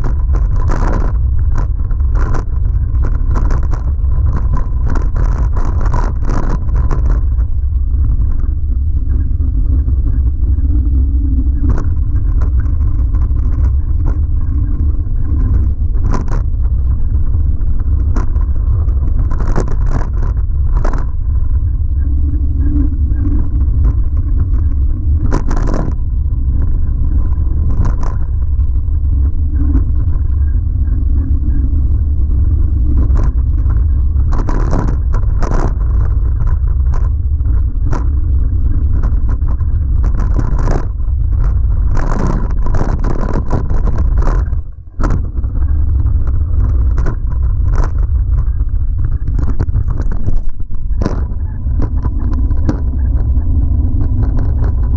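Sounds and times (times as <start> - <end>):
wind rumble: 0.0 - 54.9.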